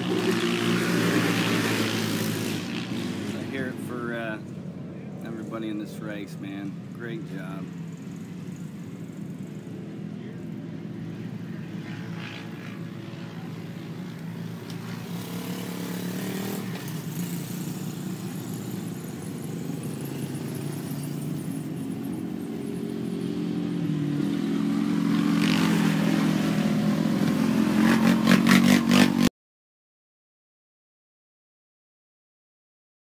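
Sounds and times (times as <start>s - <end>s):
vehicle engines humming: 0.0s - 29.3s.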